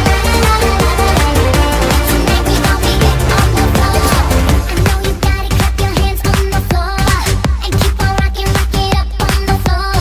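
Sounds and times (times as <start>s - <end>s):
electronic dance music: 0.0s - 9.8s.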